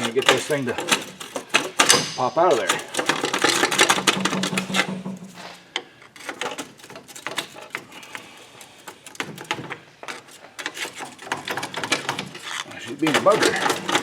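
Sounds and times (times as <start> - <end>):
pry bar clicking and scraping metal: 0.0 - 5.1, 5.7 - 14.0.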